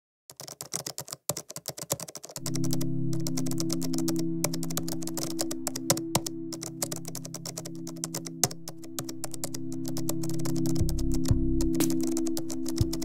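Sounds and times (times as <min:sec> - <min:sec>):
keyboard typing: 0:00.3 - 0:13.0
background music with sustained chords: 0:02.4 - 0:13.0.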